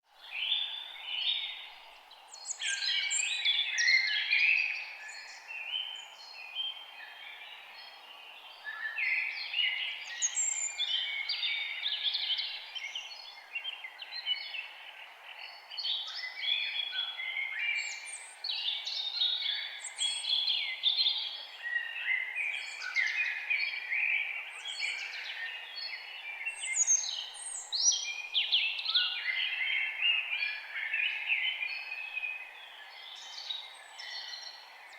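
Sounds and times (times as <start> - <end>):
chorus of forest birds: 0.0 - 34.9.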